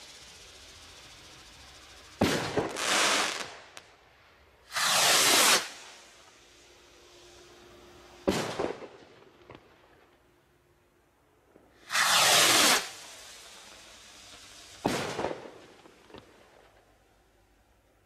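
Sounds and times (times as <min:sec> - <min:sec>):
firework shell bang and crackle: 0:00.0 - 0:04.0, 0:04.6 - 0:07.4, 0:08.0 - 0:10.3, 0:11.5 - 0:17.3
rocket rushing hiss: 0:00.0 - 0:09.7, 0:11.7 - 0:17.4
firework rocket launch crack: 0:00.0 - 0:10.2, 0:11.6 - 0:17.3.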